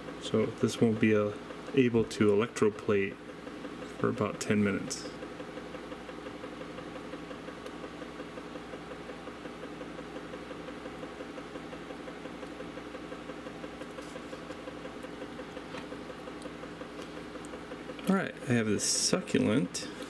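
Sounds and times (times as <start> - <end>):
magnetic stirrer motor hum: 0.0 - 20.0.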